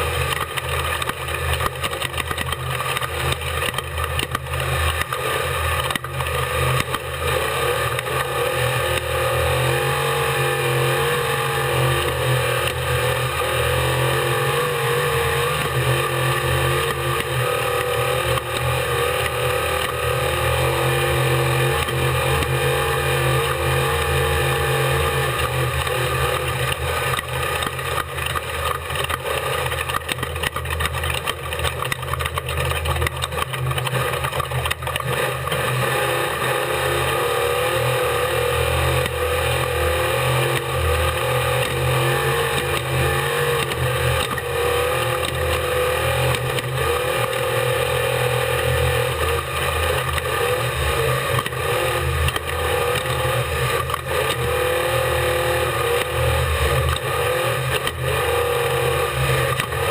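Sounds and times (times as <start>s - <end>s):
race vehicle engine running hard: 0.0s - 59.9s
road rumble: 0.0s - 59.9s.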